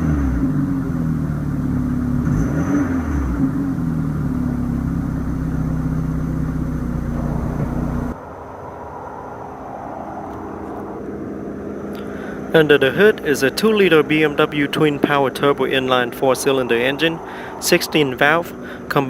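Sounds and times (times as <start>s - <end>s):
car engine revving and idling: 0.0s - 8.2s, 10.2s - 19.0s.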